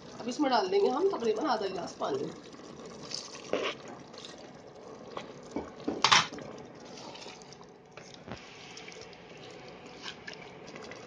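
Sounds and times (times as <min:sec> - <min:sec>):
curry sizzling and bubbling: 0:00.0 - 0:11.0.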